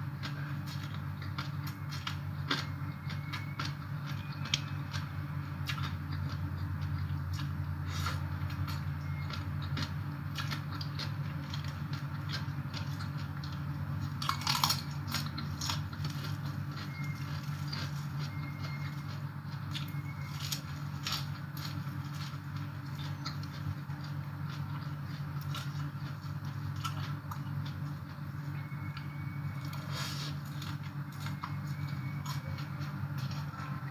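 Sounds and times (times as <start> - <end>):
crunch: 0.0 - 33.9
person chewing wetly: 0.0 - 33.9
steady low hum: 0.0 - 33.9.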